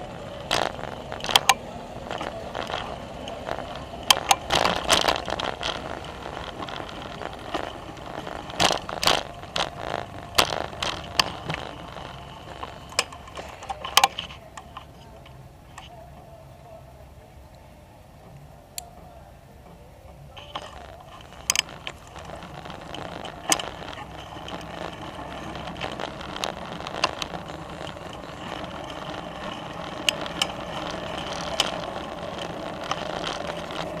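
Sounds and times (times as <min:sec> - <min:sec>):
bicycle rattling over bumps: 0:00.0 - 0:15.0, 0:20.4 - 0:34.0
wind and tyre noise: 0:00.0 - 0:16.1, 0:20.4 - 0:34.0
bicycle drivetrain ticking: 0:00.0 - 0:16.4, 0:20.1 - 0:34.0.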